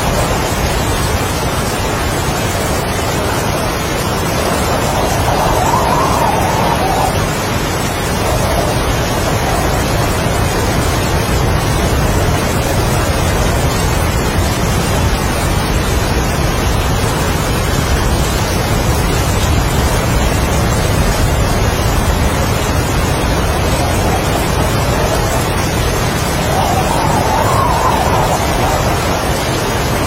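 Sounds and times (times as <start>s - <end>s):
heavy rain: 0.0s - 30.0s
strong wind: 0.0s - 30.0s.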